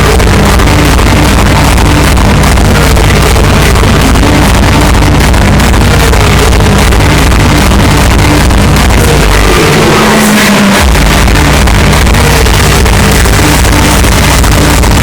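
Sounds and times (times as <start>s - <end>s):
pounding kick drum: 0.0s - 9.8s, 10.8s - 15.0s
distorted hardstyle dance music: 0.0s - 15.0s.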